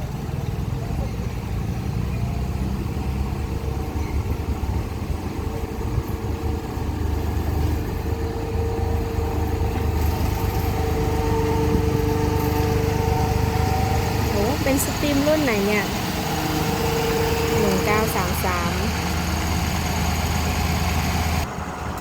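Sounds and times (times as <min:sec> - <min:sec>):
locomotive engine idling: 0:00.0 - 0:22.0.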